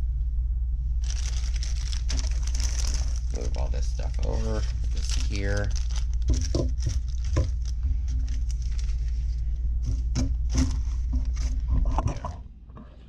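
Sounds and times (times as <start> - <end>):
low rumble: 0.0 - 13.0
packaging rustling: 1.0 - 11.6.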